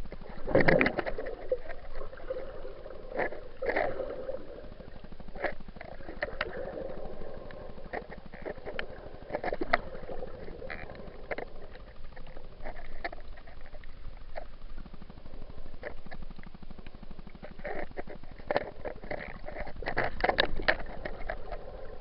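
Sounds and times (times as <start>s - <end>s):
sharp clicks and crackles: 0.0s - 22.0s
underwater water sloshing: 0.0s - 22.0s.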